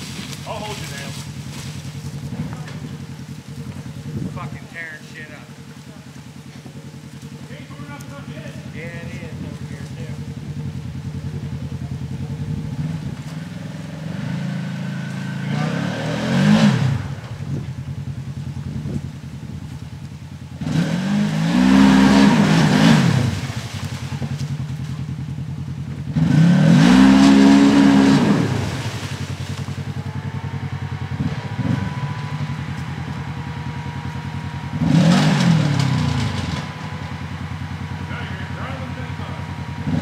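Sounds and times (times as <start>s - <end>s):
engine idling and revving: 0.0s - 40.0s.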